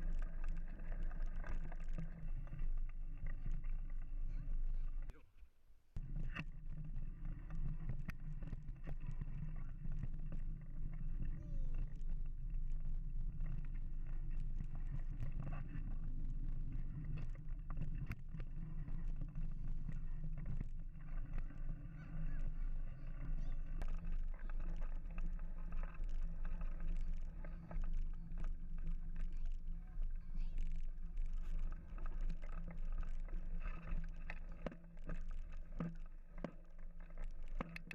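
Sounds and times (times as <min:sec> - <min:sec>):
bike clicks and rattles: 0:07.4 - 0:37.9.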